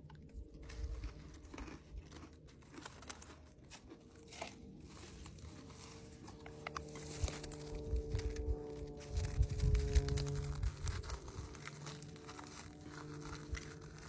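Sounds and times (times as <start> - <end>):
chewing and crunching cracker: 0.0 - 14.0
paper packet crinkling: 0.6 - 14.0.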